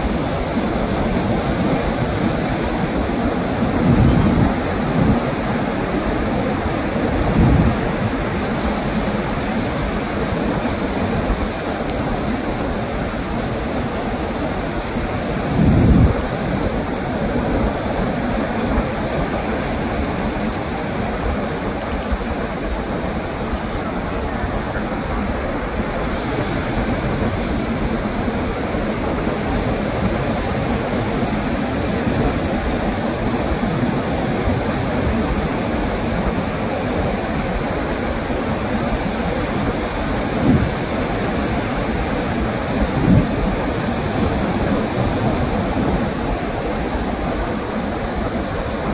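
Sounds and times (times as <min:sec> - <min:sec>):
ocean surf: 0:00.0 - 0:48.9
wind noise: 0:00.0 - 0:48.9.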